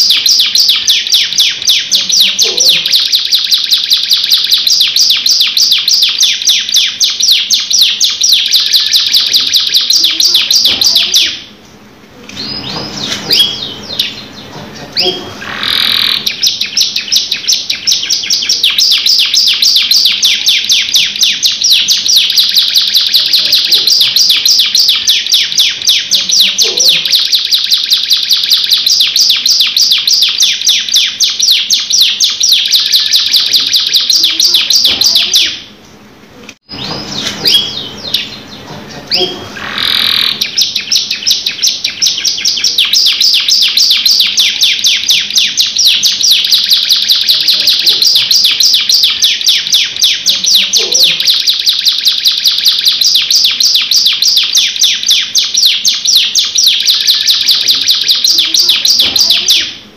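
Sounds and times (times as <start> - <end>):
canary singing trill: 0.0 - 59.9.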